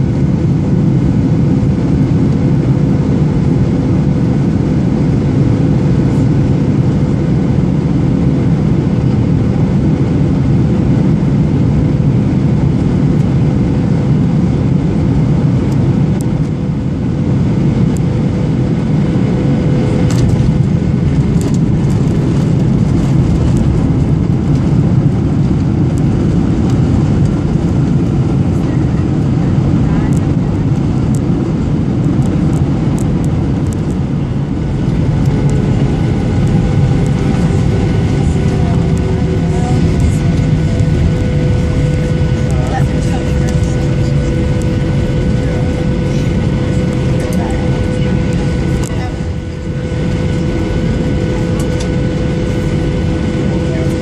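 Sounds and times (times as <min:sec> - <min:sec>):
faint hum: 0:00.0 - 0:54.0
jet engine roar: 0:00.0 - 0:54.0.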